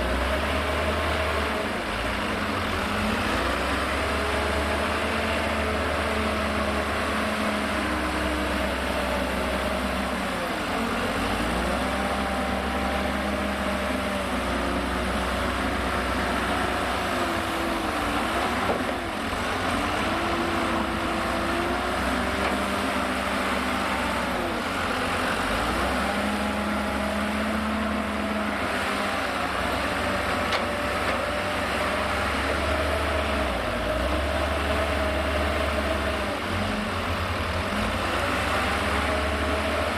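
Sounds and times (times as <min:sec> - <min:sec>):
wheel loader diesel engine: 0:00.0 - 0:39.9.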